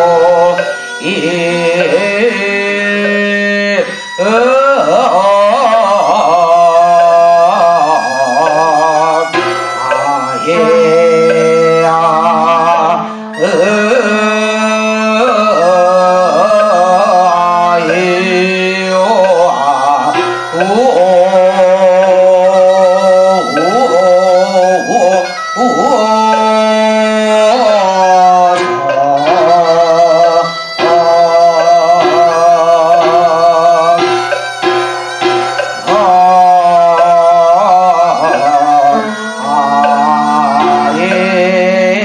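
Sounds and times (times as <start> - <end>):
wavering gliding melody: 0.0 - 42.0.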